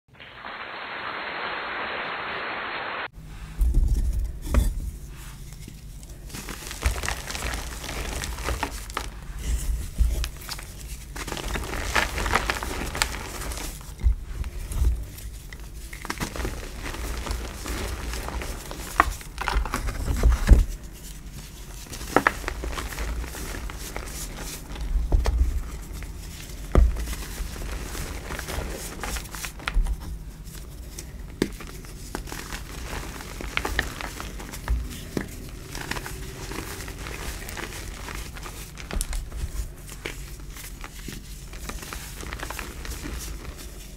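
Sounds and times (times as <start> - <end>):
gritty rustle of chalk dust: 4.6 - 43.9
hands crushing chalk: 6.3 - 30.1, 30.8 - 43.9.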